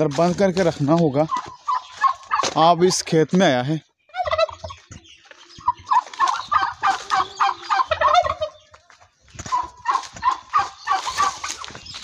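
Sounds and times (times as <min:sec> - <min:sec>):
turkeys gobbling: 0:00.2 - 0:03.0, 0:03.8 - 0:12.0.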